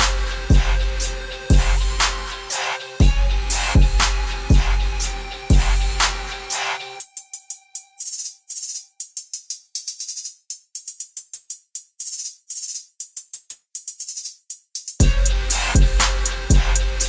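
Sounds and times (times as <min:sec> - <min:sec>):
crisp high percussion ticks: 0:00.0 - 0:12.8, 0:14.0 - 0:17.0
hip-hop beat: 0:00.0 - 0:17.0.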